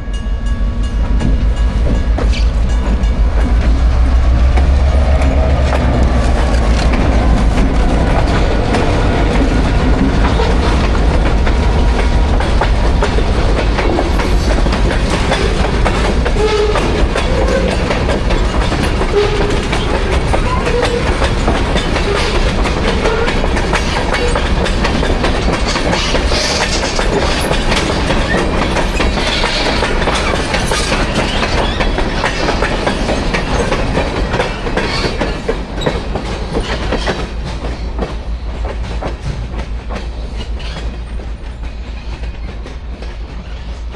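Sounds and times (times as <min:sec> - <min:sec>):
freight train rumble: 0:00.0 - 0:43.9
train wheels clacking over rail joints: 0:01.0 - 0:43.9.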